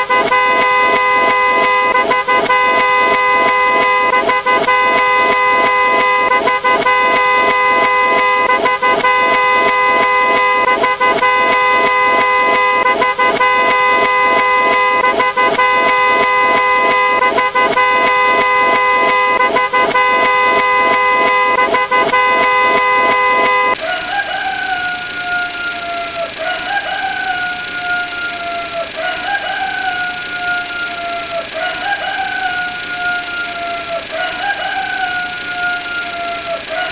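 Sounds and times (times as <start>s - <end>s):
car horn honking: 0.0s - 36.9s.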